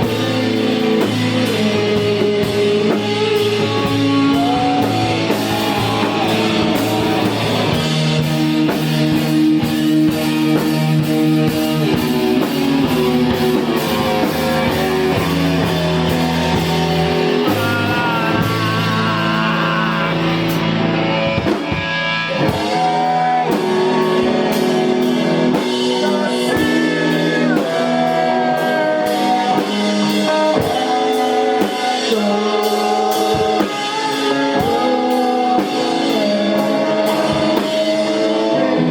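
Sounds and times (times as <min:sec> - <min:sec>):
drum kit playing: 0:00.0 - 0:38.9
electric guitars ringing: 0:00.0 - 0:38.9.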